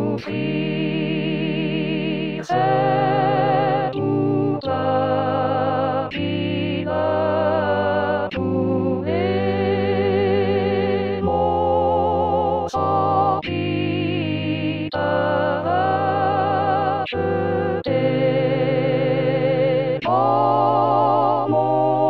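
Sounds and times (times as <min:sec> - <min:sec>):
organ-like hymn chords: 0:00.0 - 0:22.0.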